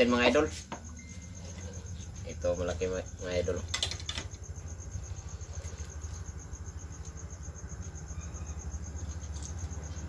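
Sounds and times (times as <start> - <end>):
crickets chirping: 0.0 - 10.0
low steady hum: 0.0 - 10.0.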